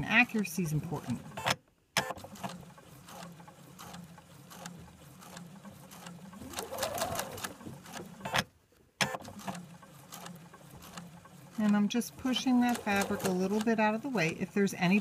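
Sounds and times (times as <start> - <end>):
electric sewing machine stitching: 0.1 - 15.0.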